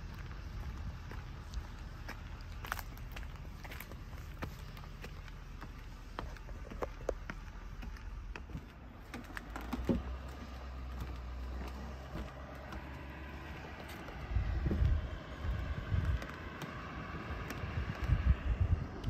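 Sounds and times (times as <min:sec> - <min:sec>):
footsteps on wooden stairs: 0:00.0 - 0:18.0
low steady rumble: 0:00.0 - 0:19.0.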